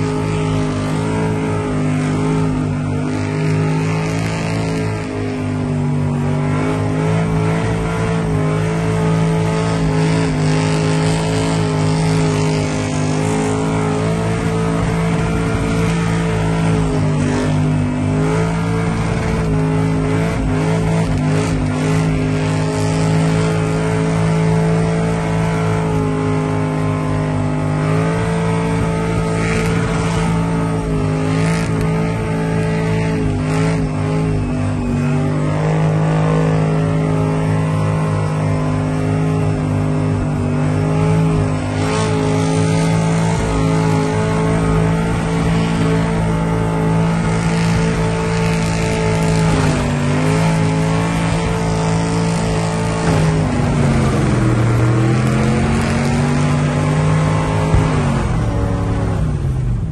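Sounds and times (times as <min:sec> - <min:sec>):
car engine under load: 0:00.0 - 0:59.9.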